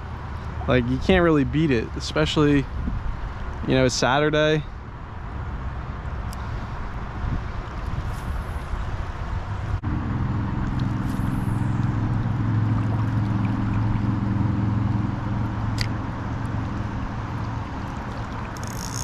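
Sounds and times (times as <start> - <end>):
low engine hum: 0.0 - 19.0
steady background noise: 0.0 - 19.0.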